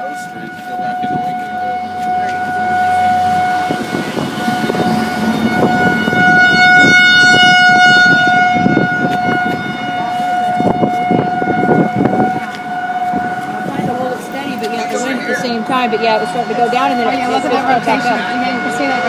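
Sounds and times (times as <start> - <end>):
warning siren wailing: 0.0 - 19.0
low rumble: 0.3 - 18.7.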